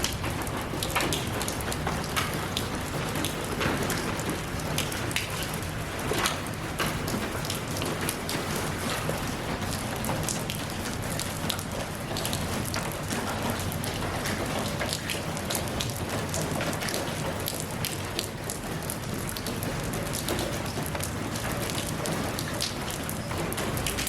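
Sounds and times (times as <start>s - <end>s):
rain drops pattering: 0.0s - 24.0s.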